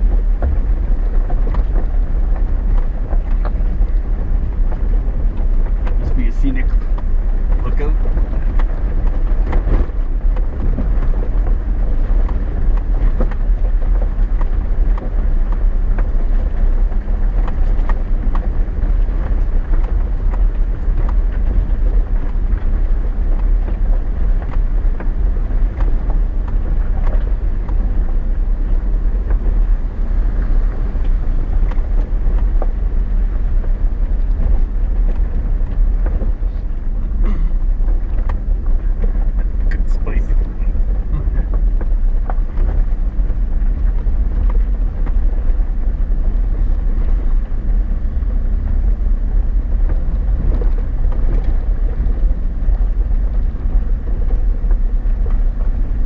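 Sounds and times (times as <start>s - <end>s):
engine and tyres rumbling: 0.0s - 56.0s
knocks and rattles over rocks: 0.0s - 56.0s.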